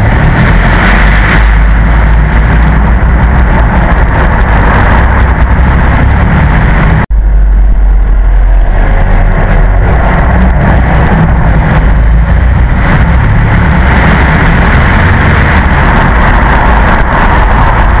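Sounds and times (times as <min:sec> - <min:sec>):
loud car engine running: 0:00.0 - 0:18.0.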